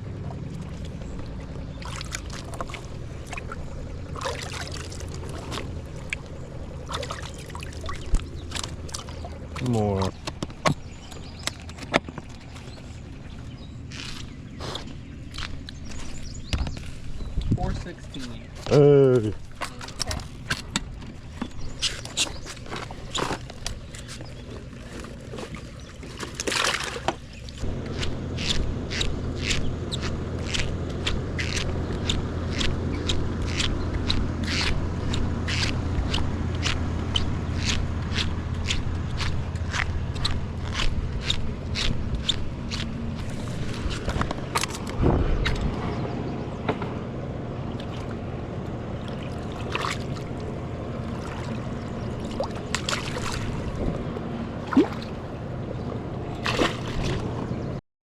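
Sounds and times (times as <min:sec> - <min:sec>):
outboard motor running: 0:00.0 - 0:57.8
water slapping against hull: 0:00.0 - 0:57.8.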